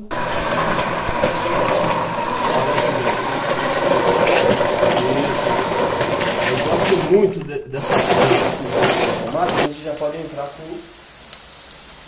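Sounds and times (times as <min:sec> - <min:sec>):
kitchen appliance motor whirring: 0:00.0 - 0:09.7.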